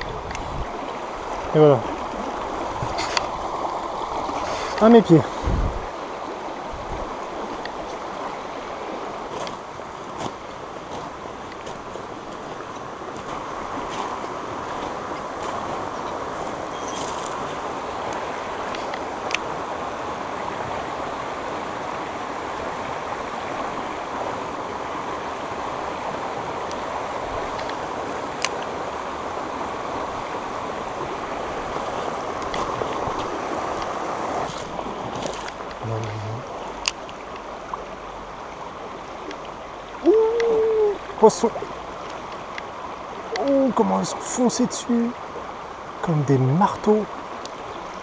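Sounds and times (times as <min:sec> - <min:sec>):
stream rushing over stones: 0:00.0 - 0:48.0.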